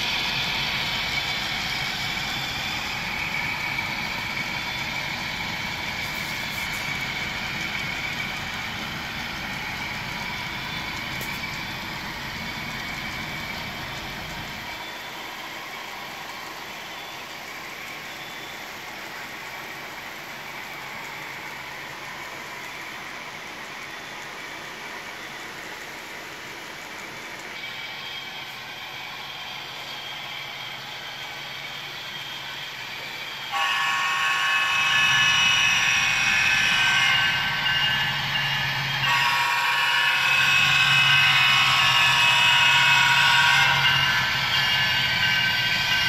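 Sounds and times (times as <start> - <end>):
model locomotive drone: 0.0 - 46.0
model train cars rolling on track: 0.0 - 46.0.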